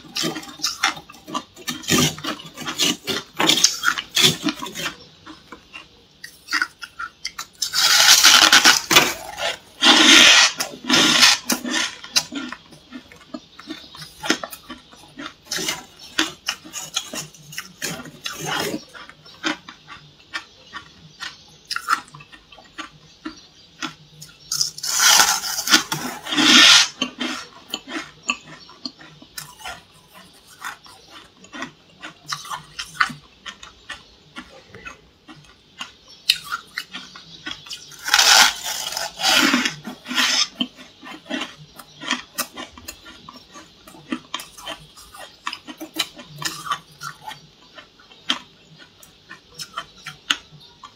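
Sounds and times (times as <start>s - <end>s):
frost being chewed: 0.0s - 50.9s.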